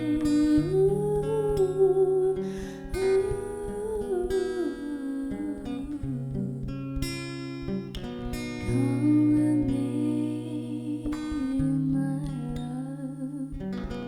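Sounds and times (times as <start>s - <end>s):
wavering held vocal note: 0.0s - 7.0s, 8.6s - 14.0s
acoustic guitar chords: 0.0s - 14.0s.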